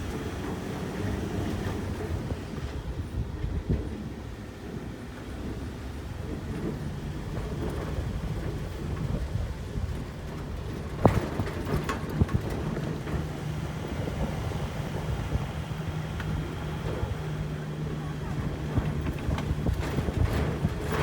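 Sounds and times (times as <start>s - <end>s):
road rumble: 0.0s - 21.0s
vehicle engine hum: 0.0s - 21.0s.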